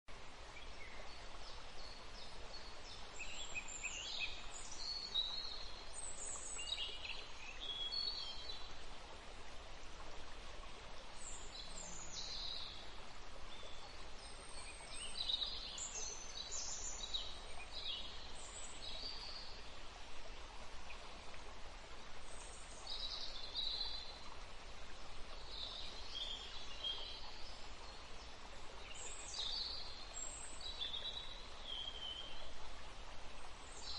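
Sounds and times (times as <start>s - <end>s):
outdoor background hiss: 0.1s - 33.9s.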